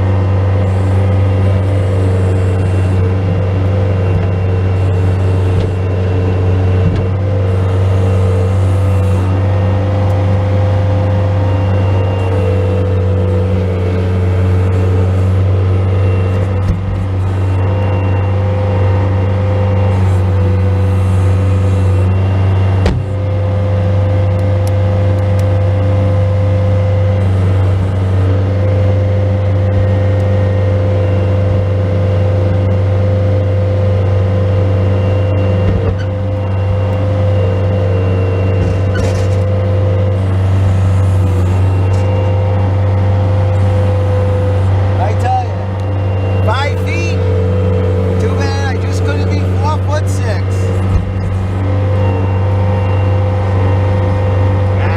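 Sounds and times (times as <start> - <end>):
diesel engine running under load: 0.0 - 54.9
steady whine: 0.0 - 54.9.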